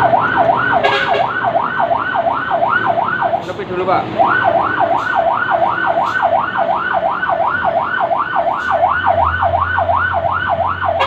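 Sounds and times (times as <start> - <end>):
fire truck siren yelping: 0.0 - 11.0.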